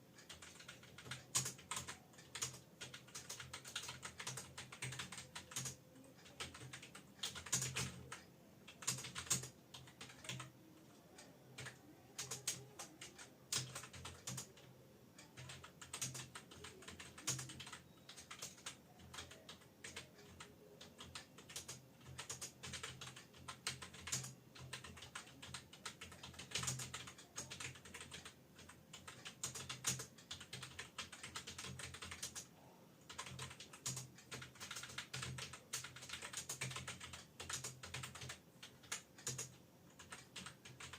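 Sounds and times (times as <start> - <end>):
computer keyboard typing: 0.1 - 40.9.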